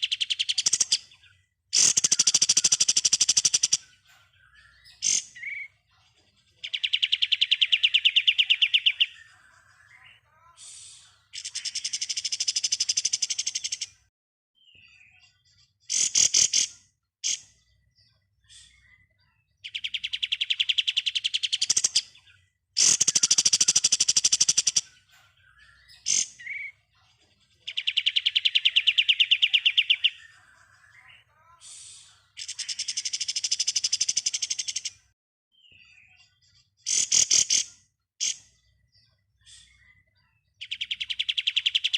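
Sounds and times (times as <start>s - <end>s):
bird sharp chirps: 0.0s - 5.9s, 6.5s - 27.0s, 27.6s - 41.9s.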